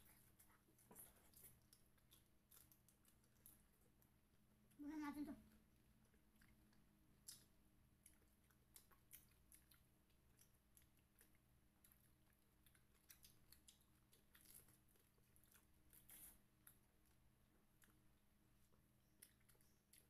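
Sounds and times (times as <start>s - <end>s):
chewing pineapple: 0.0s - 4.8s, 5.4s - 20.0s.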